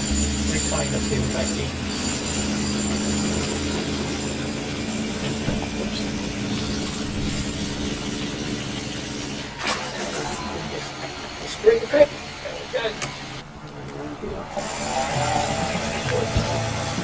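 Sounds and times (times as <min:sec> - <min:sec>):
thin high whine: 0:00.0 - 0:13.4, 0:14.3 - 0:17.0
engine humming: 0:00.0 - 0:17.0.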